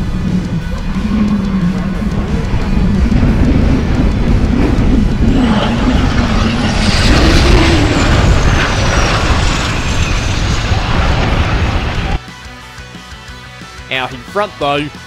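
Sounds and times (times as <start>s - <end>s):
truck engine driving past: 0.0s - 12.2s.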